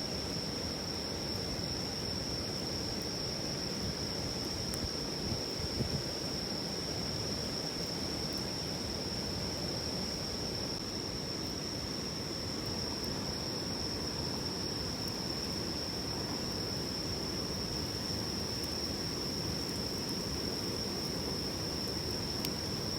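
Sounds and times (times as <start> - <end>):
insects trilling: 0.0 - 22.9.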